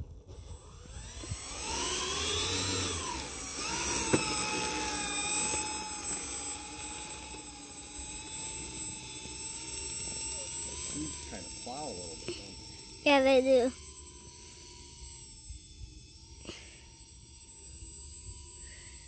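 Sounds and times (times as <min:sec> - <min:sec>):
electric motors and propellers whining: 0:00.0 - 0:19.0
high-pitched whine: 0:00.0 - 0:19.0.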